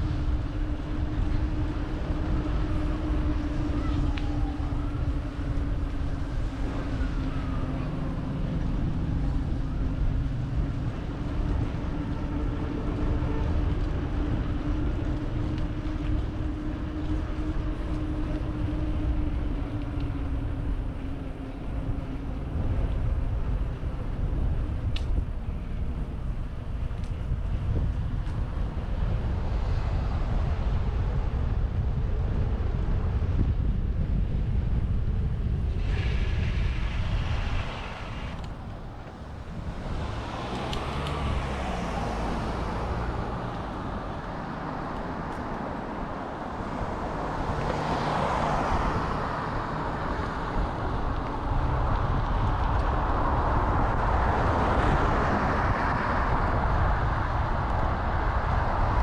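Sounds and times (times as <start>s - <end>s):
road traffic: 0.0s - 59.0s
vehicles passing: 0.0s - 59.0s
wind rushing over microphone: 0.0s - 59.0s.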